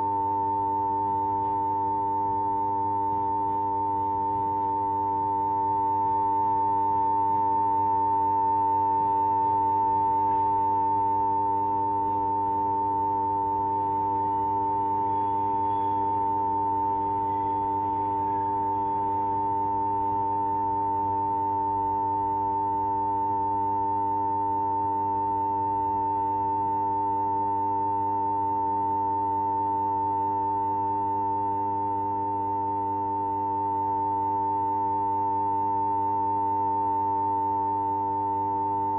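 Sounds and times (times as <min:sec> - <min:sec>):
high-pitched electronic humming tone: 0:00.0 - 0:38.9.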